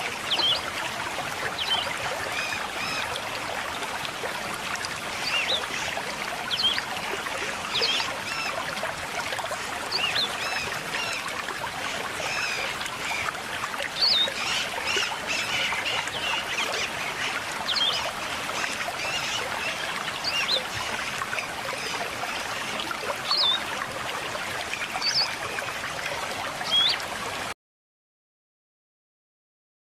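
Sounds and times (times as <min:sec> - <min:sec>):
river water flowing: 0:00.0 - 0:27.5.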